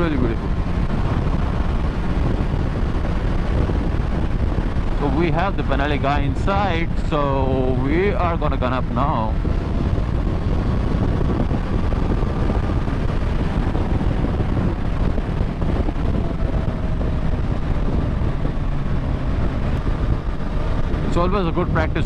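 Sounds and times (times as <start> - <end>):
faint motorcycle engine: 0.0 - 22.0
wind rumble on microphone: 0.0 - 22.0.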